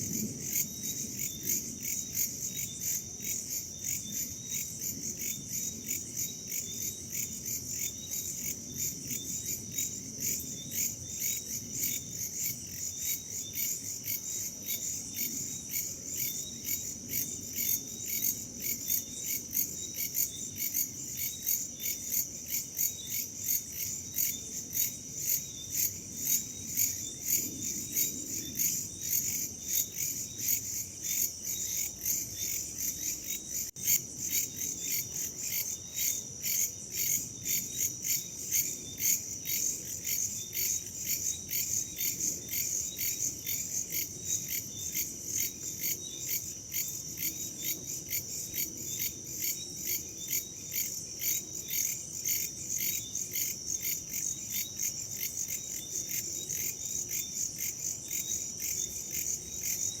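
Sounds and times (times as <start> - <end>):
insects chirping: 0.0 - 60.0.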